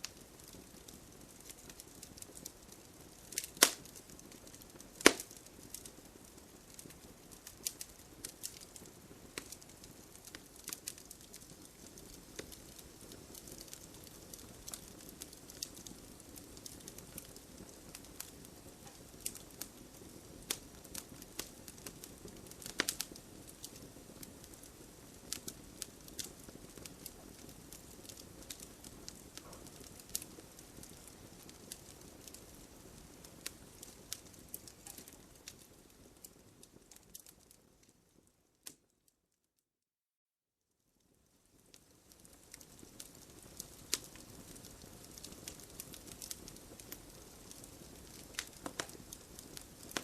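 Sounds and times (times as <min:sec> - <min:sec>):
campfire crackling and popping: 0:00.0 - 0:38.9, 0:41.0 - 0:50.0.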